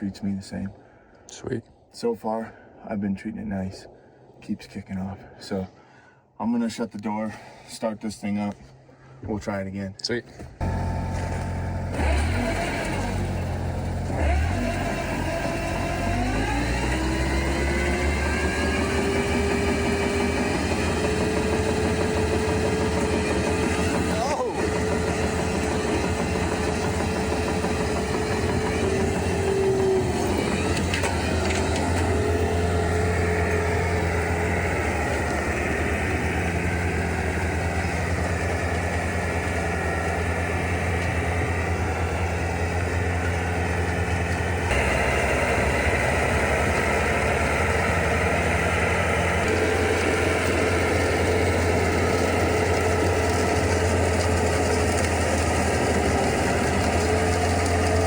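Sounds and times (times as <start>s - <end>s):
diesel engine under load: 10.4s - 58.0s.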